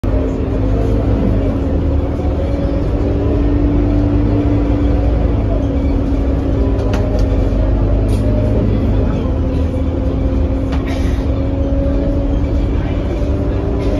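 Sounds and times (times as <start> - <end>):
diesel bus engine droning: 0.0 - 13.9.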